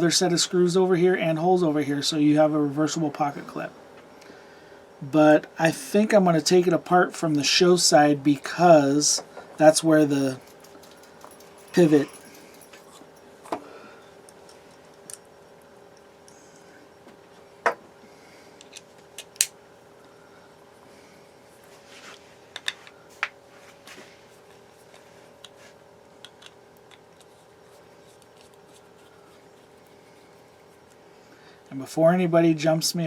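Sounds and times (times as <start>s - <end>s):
low room tone hum: 0.0s - 33.0s.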